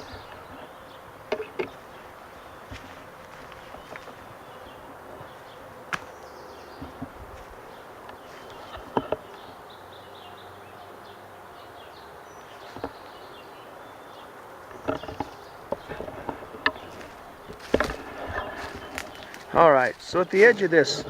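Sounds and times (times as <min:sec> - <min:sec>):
faint insect buzzing: 0:00.0 - 0:19.9.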